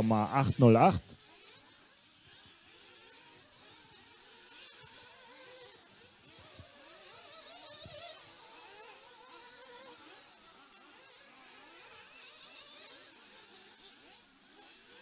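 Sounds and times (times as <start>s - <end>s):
rc car motors buzzing: 0.0s - 15.0s.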